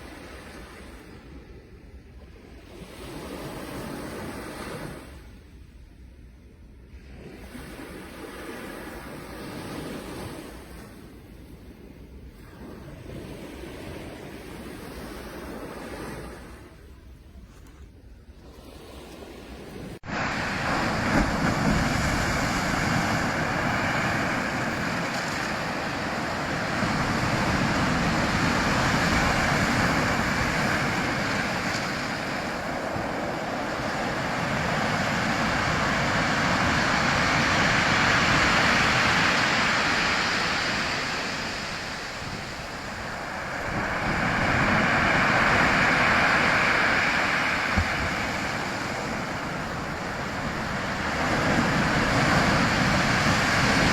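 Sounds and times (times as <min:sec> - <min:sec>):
ocean waves breaking: 0:00.0 - 0:01.6, 0:07.0 - 0:17.0, 0:18.4 - 0:53.9.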